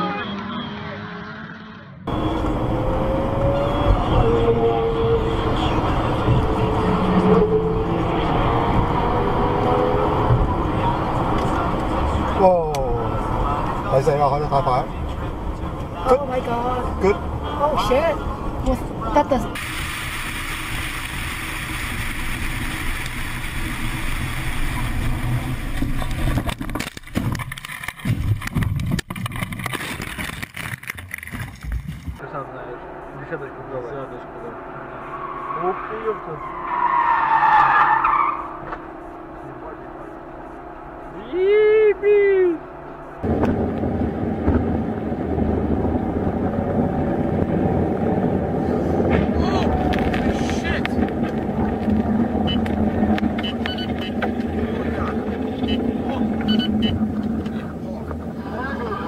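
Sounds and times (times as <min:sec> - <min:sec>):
wind and road noise in car: 0:00.3 - 0:59.0.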